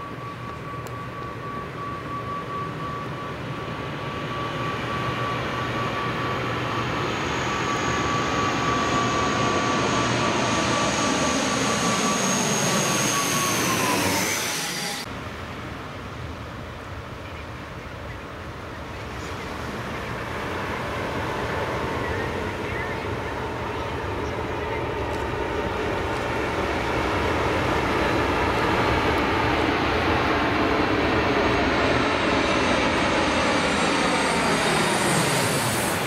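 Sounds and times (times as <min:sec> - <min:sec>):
turboprop airliner flying overhead: 0:00.0 - 0:36.0.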